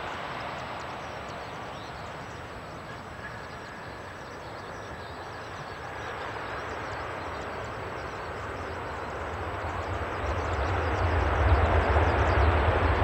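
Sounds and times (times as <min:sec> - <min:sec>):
jet airliner engine noise: 0:00.0 - 0:13.0.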